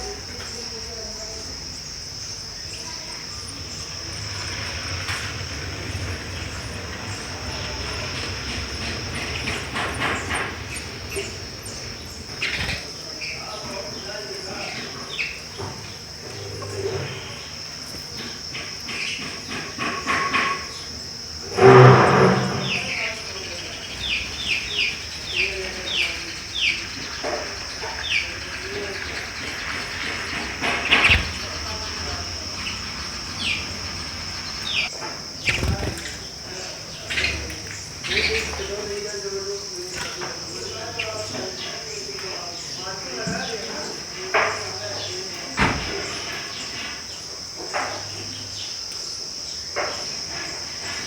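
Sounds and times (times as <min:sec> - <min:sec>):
sparrow chirps: 0:00.0 - 0:21.6, 0:22.6 - 0:51.0
high-pitched cricket trill: 0:00.0 - 0:51.0
high-pitched insect drone: 0:00.0 - 0:51.0.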